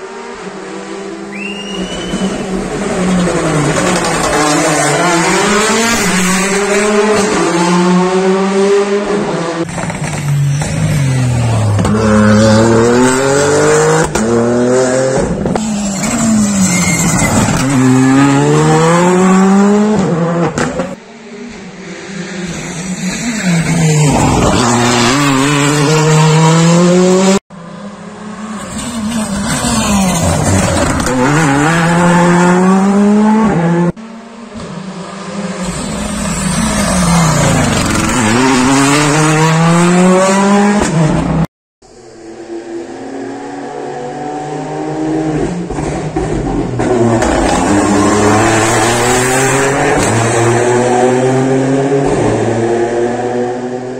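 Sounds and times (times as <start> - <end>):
rally cars passing at full throttle: 0.0 - 53.9.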